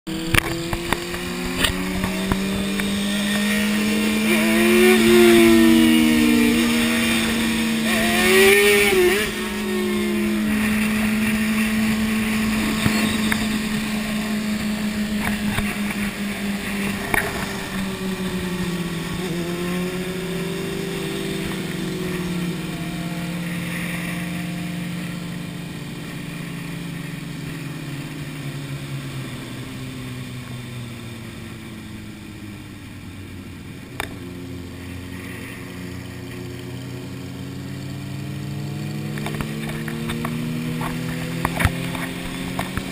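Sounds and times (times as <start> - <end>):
motorcycle engine running: 0.1 - 42.9.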